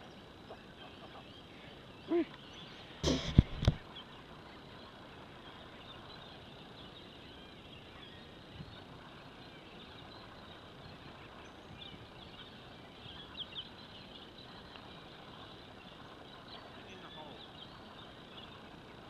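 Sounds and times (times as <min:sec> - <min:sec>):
faint bird chirps: 0:00.0 - 0:19.0
low background hiss: 0:00.0 - 0:19.0.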